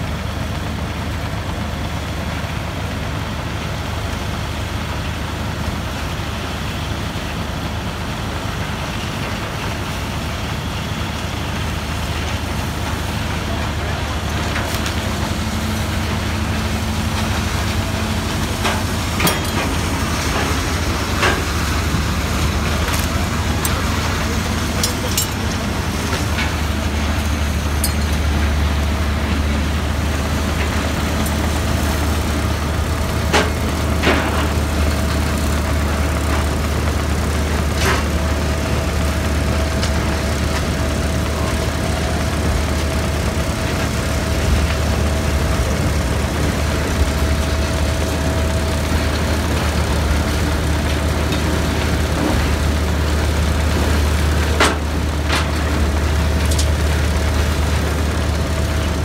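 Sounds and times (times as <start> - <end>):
deep engine hum: 8.8 - 59.0
steady machine whine: 10.2 - 59.0.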